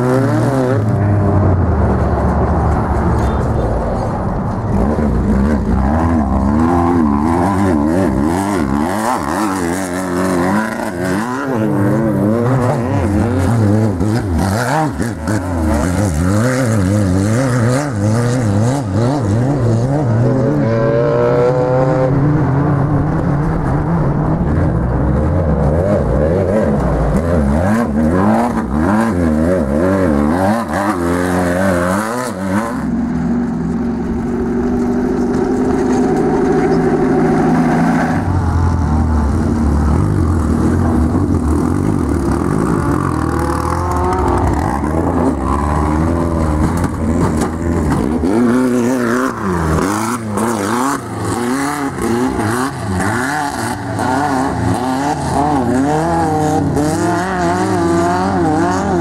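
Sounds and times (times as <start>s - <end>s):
race car sliding on dirt: 0.0s - 59.0s
race vehicle engines revving: 0.0s - 59.0s.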